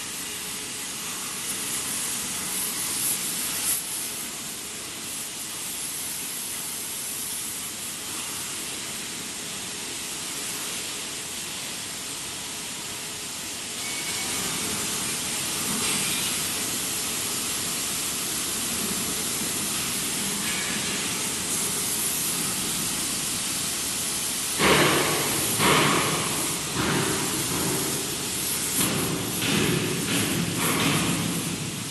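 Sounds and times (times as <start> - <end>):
gas torch flame hissing: 0.0 - 31.9.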